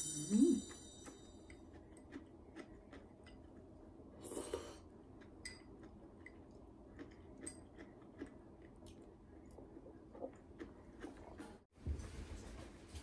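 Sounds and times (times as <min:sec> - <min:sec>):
quiet chewing: 0:01.0 - 0:11.7.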